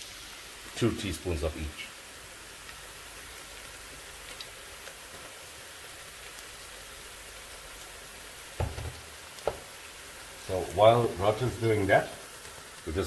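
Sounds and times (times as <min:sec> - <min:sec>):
faint crackles of frying: 0:00.0 - 0:13.0
onions sizzling in oil: 0:00.0 - 0:13.0.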